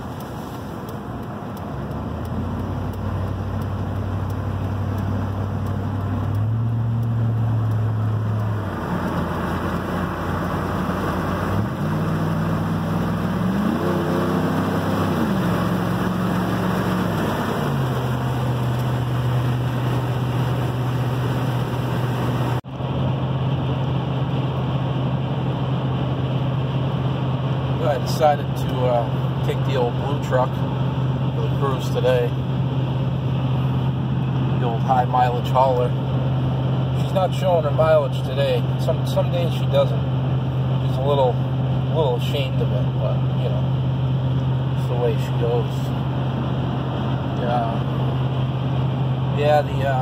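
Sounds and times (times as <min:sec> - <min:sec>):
truck engine accelerating: 0:00.0 - 0:50.0.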